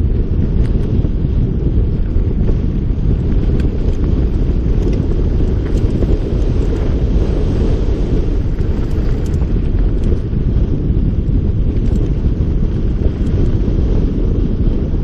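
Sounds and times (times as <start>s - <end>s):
wind buffeting microphone: 0.0s - 15.0s
bike clicks and rattles: 0.1s - 14.6s.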